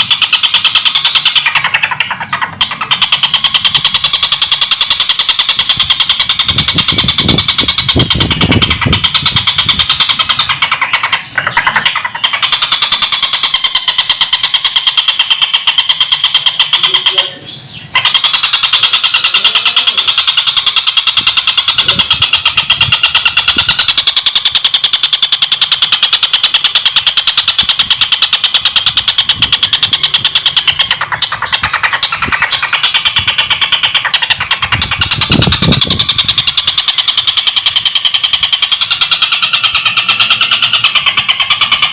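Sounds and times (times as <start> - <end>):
kingfisher rattling cackle: 0.0 - 41.9.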